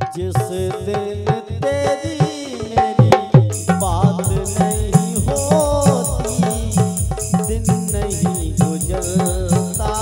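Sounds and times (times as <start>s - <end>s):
fast hand-drum beat: 0.0s - 10.0s.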